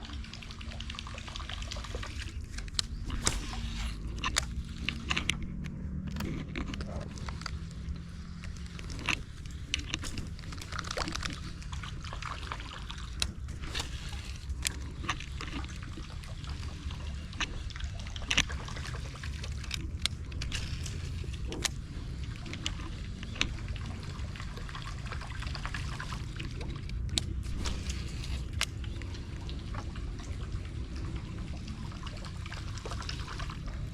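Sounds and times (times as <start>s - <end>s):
steady low rumble: 0.0s - 33.9s
water splashing and trickling: 0.0s - 33.9s.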